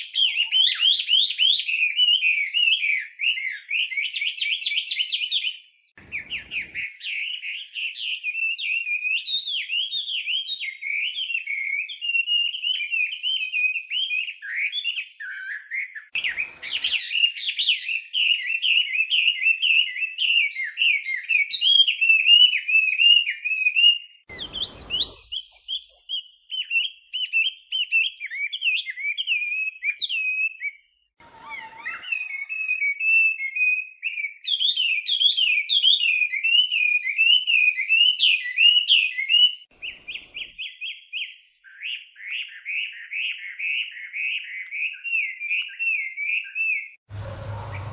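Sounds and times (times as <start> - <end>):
bird singing warbling song: 0.0 - 47.9.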